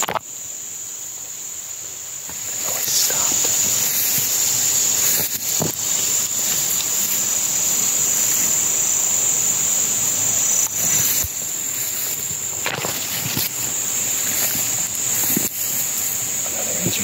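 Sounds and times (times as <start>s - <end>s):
insects buzzing: 0.0s - 17.0s
rustles in undergrowth: 0.3s - 17.0s.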